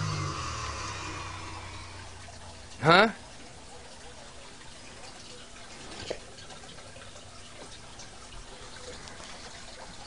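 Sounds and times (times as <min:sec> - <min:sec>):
dog urinating trickle: 0:00.0 - 0:10.0.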